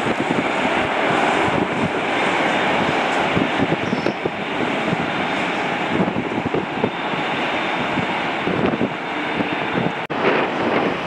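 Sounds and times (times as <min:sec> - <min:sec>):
jet engine noise: 0:00.0 - 0:11.0
wind buffeting microphone: 0:00.0 - 0:11.0.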